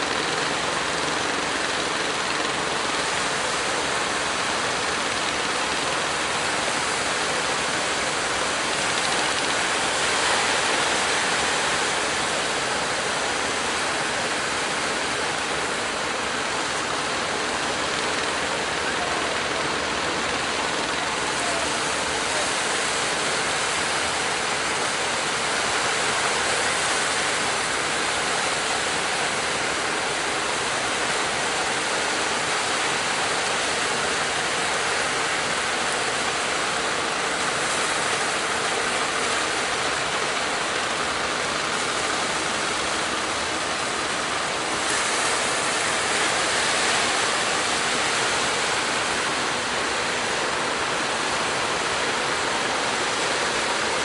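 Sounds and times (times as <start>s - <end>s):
surf breaking and washing ashore: 0.0s - 54.0s.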